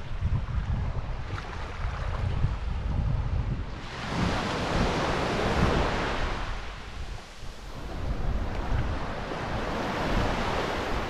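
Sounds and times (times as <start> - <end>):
wind buffeting microphone: 0.0 - 11.0
small waves washing on shore: 0.1 - 11.0.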